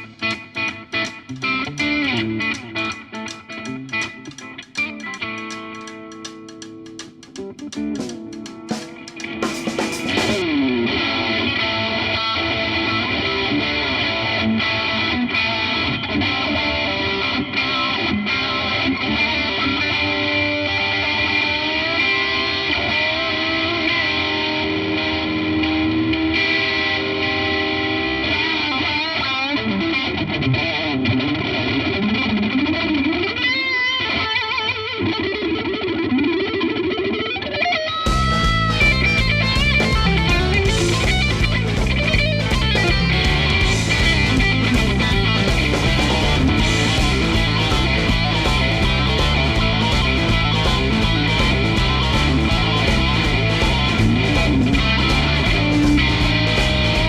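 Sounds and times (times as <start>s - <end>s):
distorted electric guitar lead: 0.0s - 57.0s.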